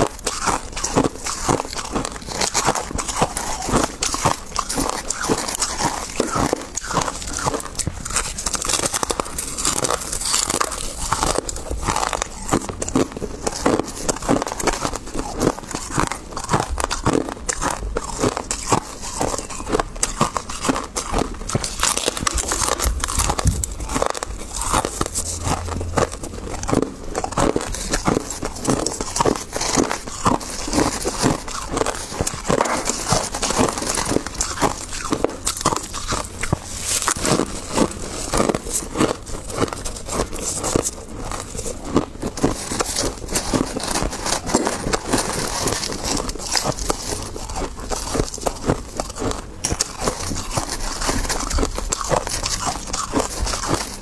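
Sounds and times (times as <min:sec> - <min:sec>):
gloved hand scooping ice: 0:00.0 - 0:41.4, 0:42.3 - 0:54.0
crushed ice crunching: 0:00.0 - 0:54.0.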